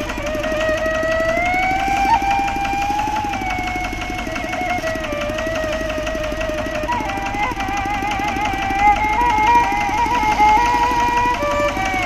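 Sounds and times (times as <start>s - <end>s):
diesel engine chugging: 0.0s - 12.0s
high whine sliding lower: 0.0s - 12.0s.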